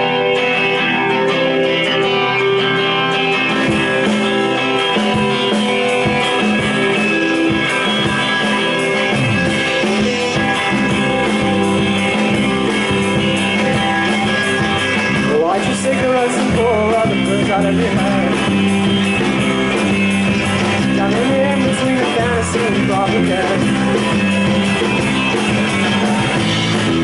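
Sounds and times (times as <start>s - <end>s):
bass and drums: 0.0s - 27.0s
electric guitar chords strummed: 0.0s - 27.0s.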